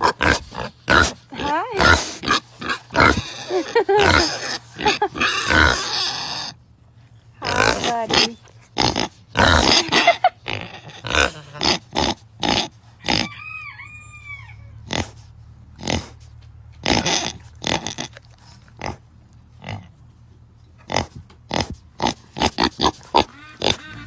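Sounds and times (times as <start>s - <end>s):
pig grunting: 0.0s - 6.6s, 7.4s - 13.4s, 14.8s - 16.2s, 16.8s - 20.0s, 20.8s - 24.0s.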